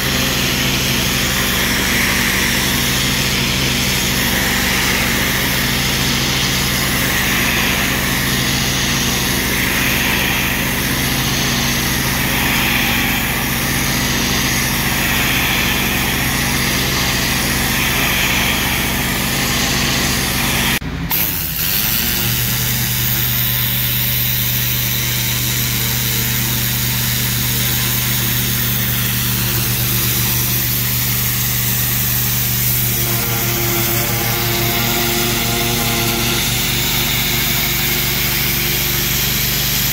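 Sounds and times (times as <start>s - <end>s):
pressure washer engine droning: 0.0s - 39.9s.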